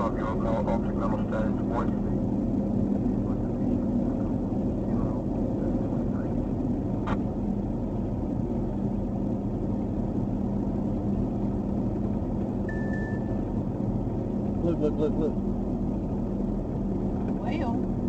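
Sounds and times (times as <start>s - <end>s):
vehicle engine and tyre noise: 0.0s - 18.0s.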